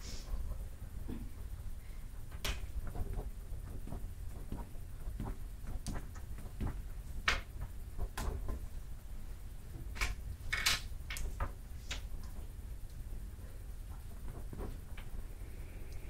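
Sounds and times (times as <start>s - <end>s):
low steady hum: 0.0s - 16.0s
students writing and shifting: 0.0s - 16.0s.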